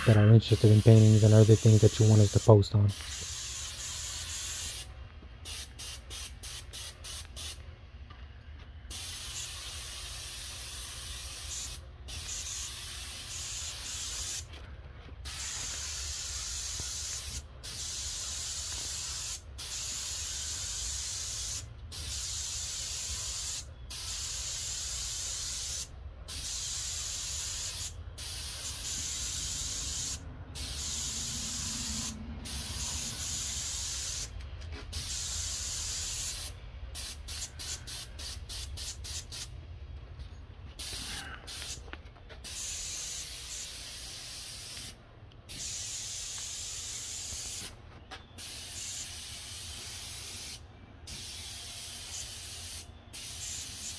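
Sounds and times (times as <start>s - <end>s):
paint sprayer hissing: 0.1s - 7.6s, 8.9s - 14.6s, 15.2s - 39.5s, 40.8s - 47.8s, 48.4s - 53.9s.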